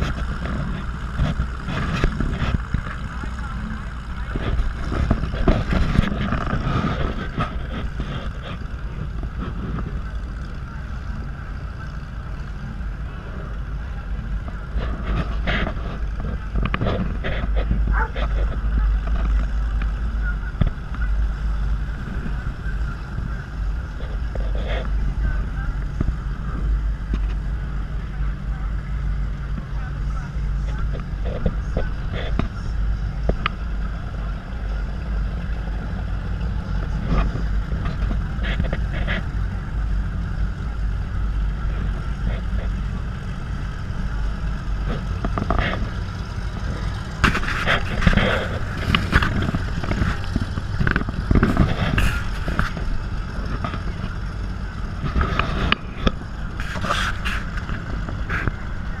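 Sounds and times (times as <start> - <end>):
motorboat engine rumble: 0.0 - 59.0.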